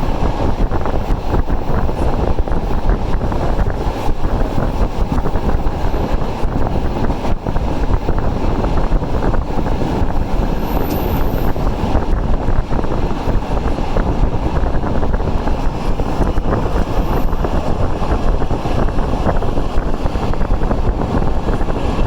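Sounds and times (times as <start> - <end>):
rushing air: 0.0 - 22.0
train wheels rumbling on rails: 0.0 - 22.0.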